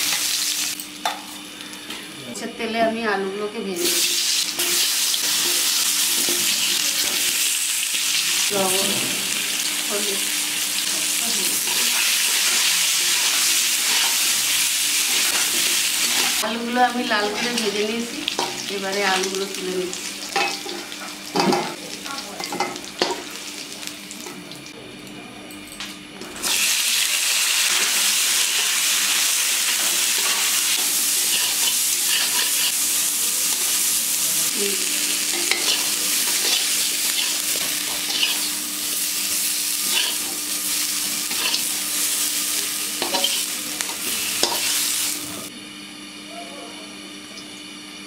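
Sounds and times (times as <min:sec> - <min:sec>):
hot oil sizzling in a pan: 0:00.0 - 0:01.7, 0:03.8 - 0:24.6, 0:26.4 - 0:45.5.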